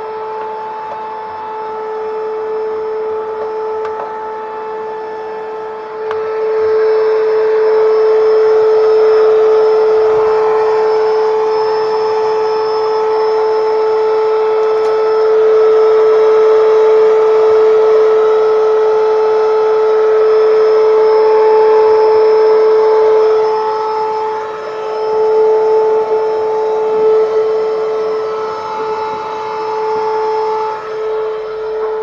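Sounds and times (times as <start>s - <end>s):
power tool motor whining: 0.0s - 32.0s.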